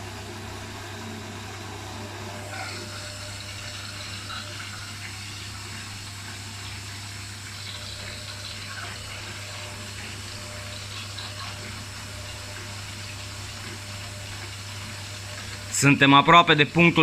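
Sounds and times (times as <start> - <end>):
washing machine spinning: 0.0 - 17.0
water rushing into washing machine: 0.0 - 17.0.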